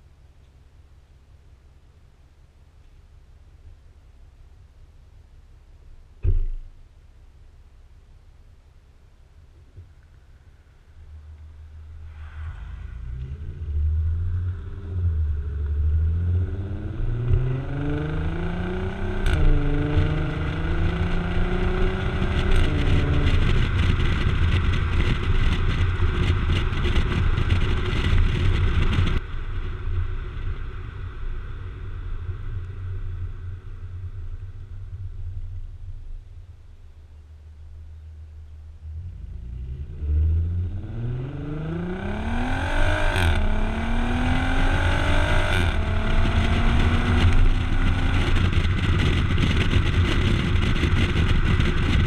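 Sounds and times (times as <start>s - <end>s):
car exhaust accelerating hard: 9.4s - 52.0s.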